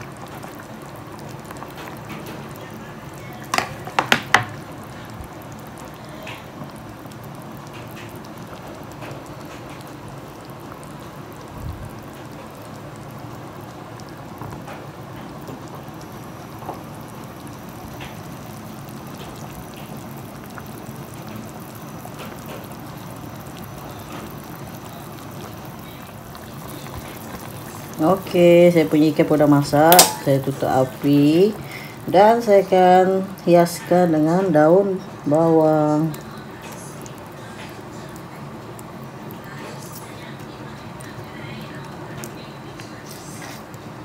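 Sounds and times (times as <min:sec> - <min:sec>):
broth bubbling in a wok: 0:00.0 - 0:44.0.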